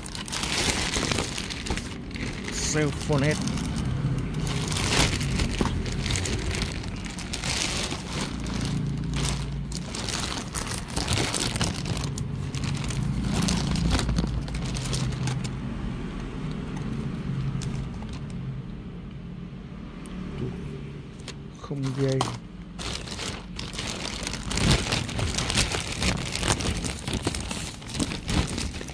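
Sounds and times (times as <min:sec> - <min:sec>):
packaging crinkling and rustling: 0:00.0 - 0:15.7, 0:17.4 - 0:18.5, 0:21.2 - 0:28.9.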